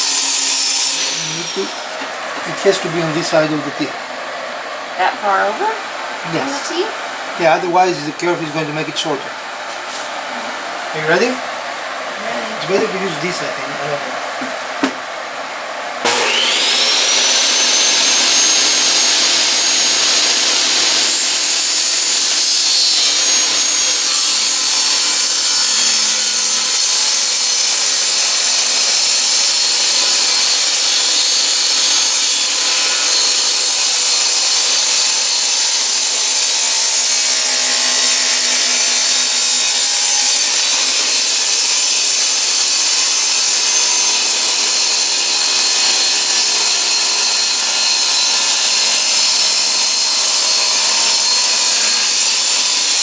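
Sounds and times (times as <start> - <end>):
electric saw cutting wood: 0.0 - 53.0.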